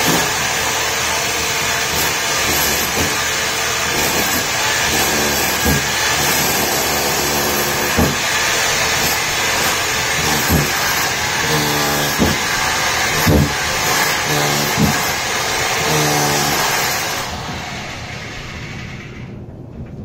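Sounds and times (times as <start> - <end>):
hammer drill chiseling concrete: 0.0 - 19.0.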